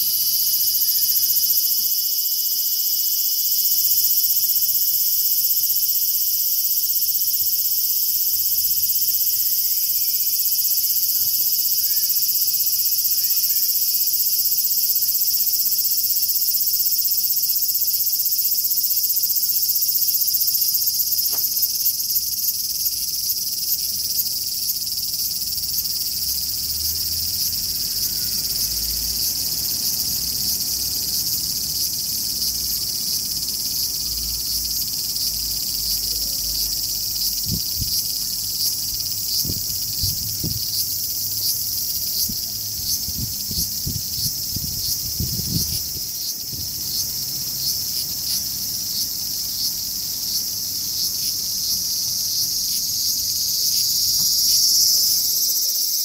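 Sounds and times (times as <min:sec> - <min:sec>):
cicada buzzing: 0:00.0 - 0:56.0.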